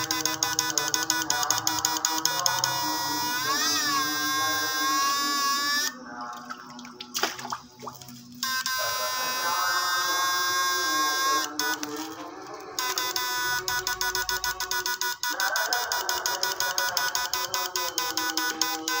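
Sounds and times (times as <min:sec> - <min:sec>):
electronic high-pitched whine: 0:00.0 - 0:06.0, 0:08.4 - 0:19.0.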